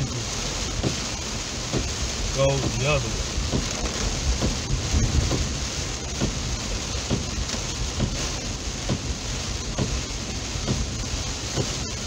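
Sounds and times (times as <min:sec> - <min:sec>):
heavy rain on car windshield: 0:00.0 - 0:12.0
soft regular thud: 0:00.7 - 0:12.0.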